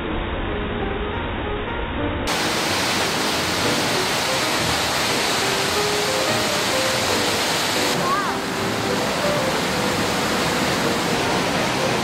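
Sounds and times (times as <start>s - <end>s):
waterfall roaring: 2.3s - 12.0s.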